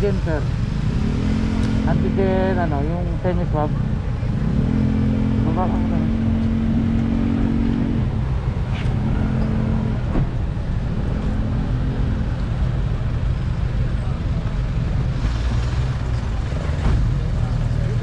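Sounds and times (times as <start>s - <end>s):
road traffic: 0.0s - 18.0s
vehicle hum: 0.0s - 18.0s.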